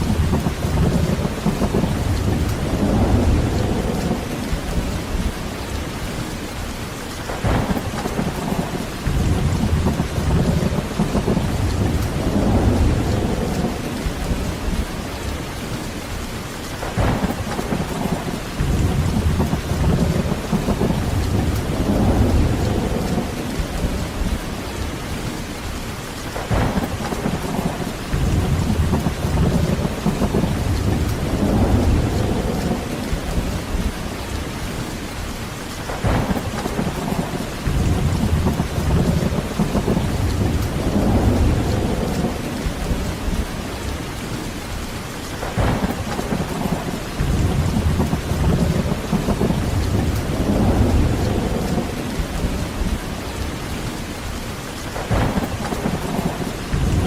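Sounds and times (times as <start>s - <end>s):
rolling thunder: 0.0s - 6.6s, 7.2s - 16.1s, 16.8s - 25.3s, 26.3s - 35.2s, 35.8s - 57.0s
heavy rain falling: 0.0s - 57.0s.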